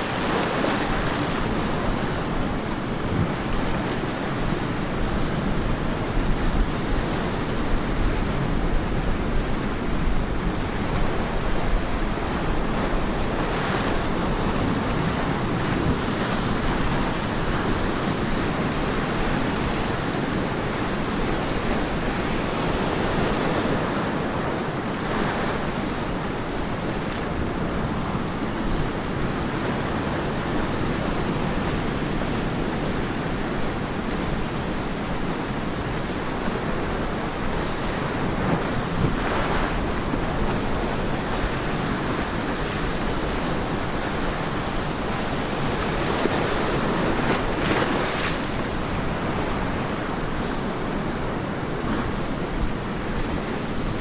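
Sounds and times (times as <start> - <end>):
ocean waves breaking on beach: 0.0 - 54.0
wind on microphone: 0.0 - 54.0.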